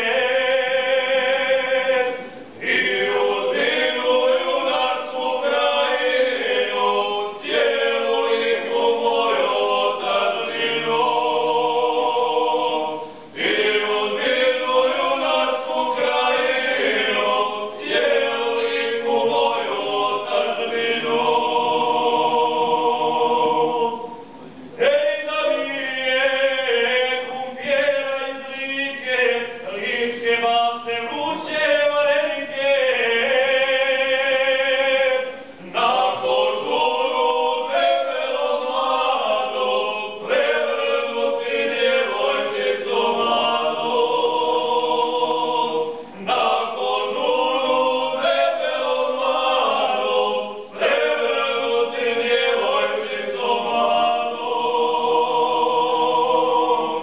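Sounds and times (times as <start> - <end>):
men singing unaccompanied: 0.0 - 57.0.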